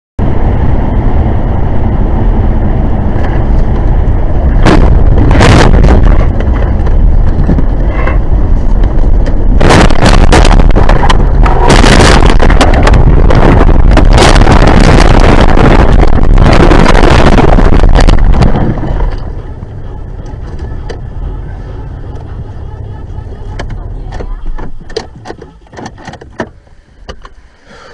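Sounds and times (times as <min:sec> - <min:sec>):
car road and engine rumble: 0:00.2 - 0:27.9.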